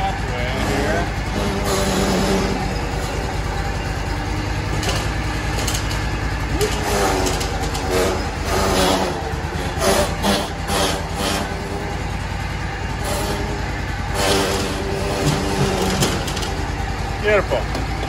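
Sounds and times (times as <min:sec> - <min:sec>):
riding lawn mower engine: 0:00.0 - 0:18.0.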